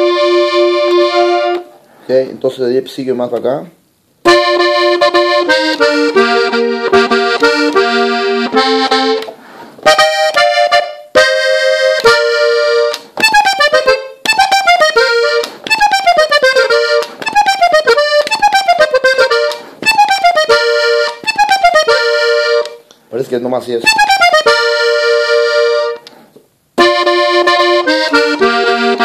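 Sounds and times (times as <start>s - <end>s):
button accordion melody: 0.0s - 1.8s, 4.2s - 22.8s, 23.8s - 26.2s, 26.8s - 29.0s.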